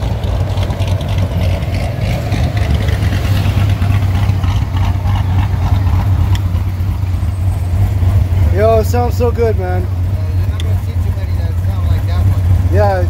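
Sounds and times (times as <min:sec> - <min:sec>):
car engine idling unevenly: 0:00.0 - 0:13.0.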